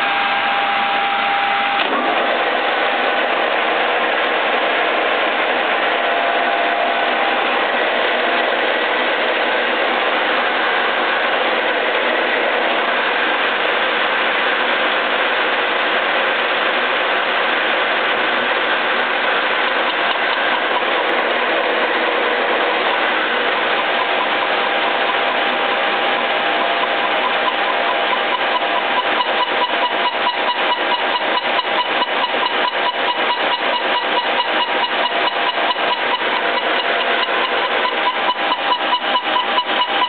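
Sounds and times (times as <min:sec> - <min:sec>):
boring mill running: 0:00.0 - 0:40.0.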